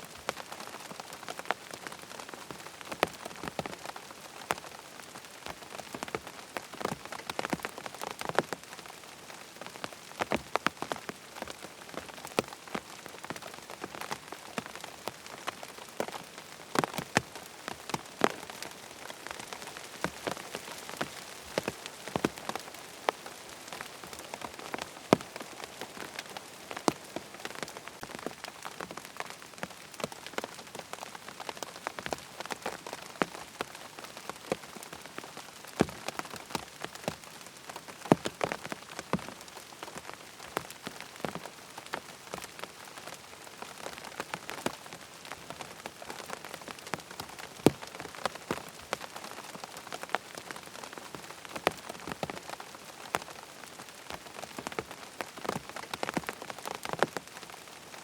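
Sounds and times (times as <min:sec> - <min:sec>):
rain falling on a tent: 0:00.0 - 0:58.0.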